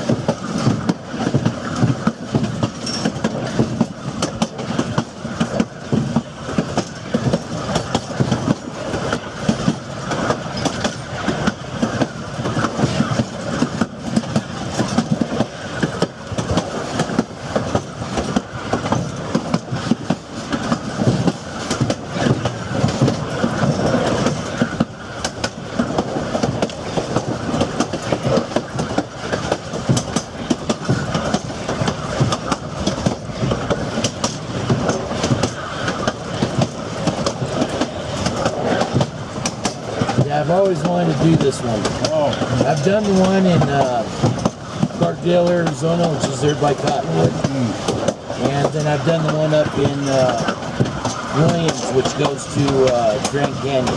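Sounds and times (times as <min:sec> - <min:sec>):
train cars rumbling on track: 0:00.0 - 0:53.9
wheels clacking over rails: 0:00.0 - 0:53.9.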